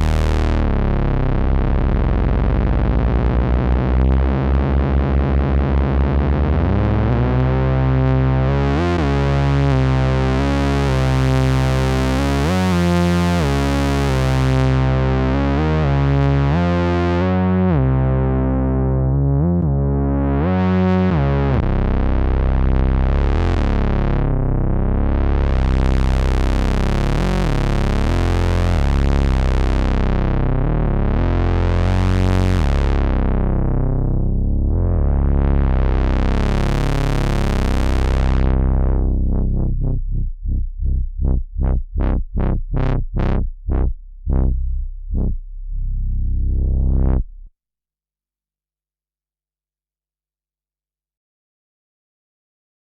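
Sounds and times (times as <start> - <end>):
bass synthesizer notes: 0.0 - 47.5.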